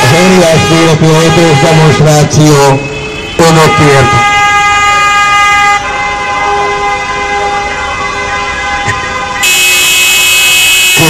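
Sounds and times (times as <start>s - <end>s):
car horns blasting: 0.0s - 11.0s.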